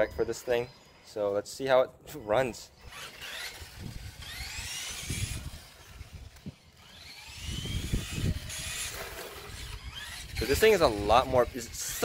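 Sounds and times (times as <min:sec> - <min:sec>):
toy car electric motor whining: 0:00.0 - 0:01.4, 0:02.5 - 0:12.0.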